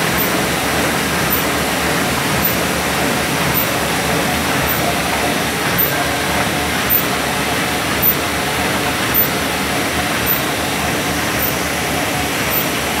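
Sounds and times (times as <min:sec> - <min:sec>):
machine clattering: 0:00.0 - 0:13.0.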